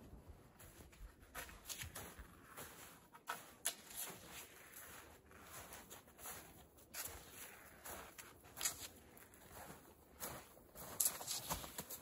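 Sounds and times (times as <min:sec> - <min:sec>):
footsteps crunching in snow: 0:00.2 - 0:12.0.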